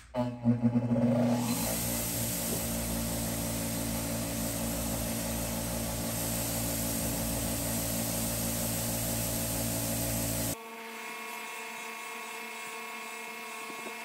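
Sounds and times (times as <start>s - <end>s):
grinder motor humming: 0.2s - 14.0s.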